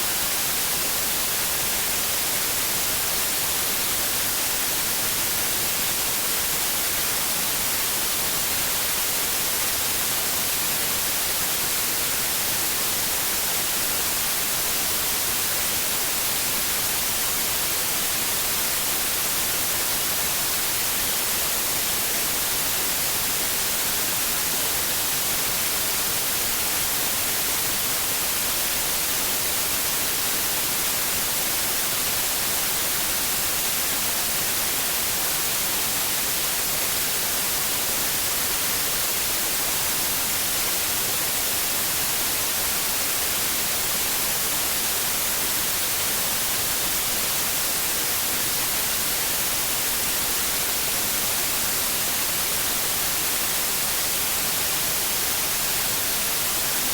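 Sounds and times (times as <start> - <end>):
steady white noise: 0.0 - 56.9.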